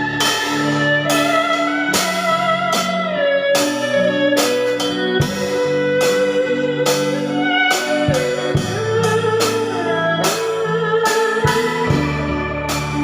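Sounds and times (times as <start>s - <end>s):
drums keeping a steady beat: 0.0s - 13.0s
electric guitar melody: 0.0s - 13.0s
keyboard: 0.0s - 13.0s.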